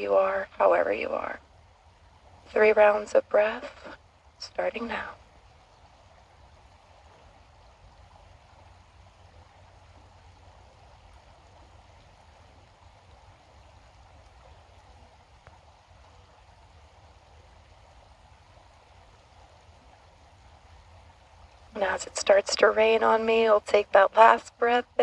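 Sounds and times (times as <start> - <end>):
creek water flowing over stones: 0.1 - 24.9.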